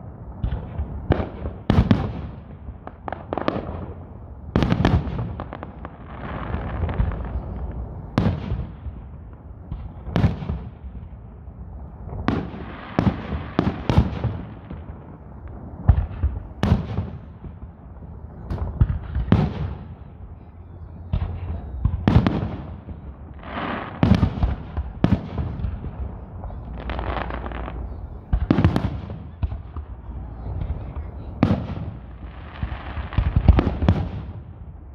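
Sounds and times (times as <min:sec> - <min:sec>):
firework bursts with crackle: 0:00.0 - 0:34.9.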